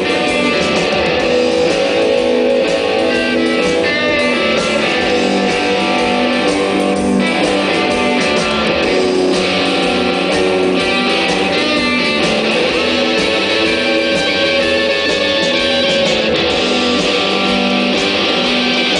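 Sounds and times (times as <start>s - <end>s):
electric guitar chords: 0.0s - 18.9s
live rock band playing: 0.0s - 18.9s.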